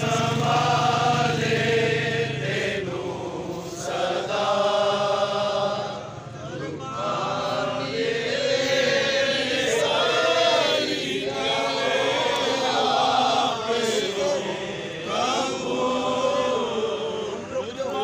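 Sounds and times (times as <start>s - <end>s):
crowd chanting slogans: 0.0s - 18.0s.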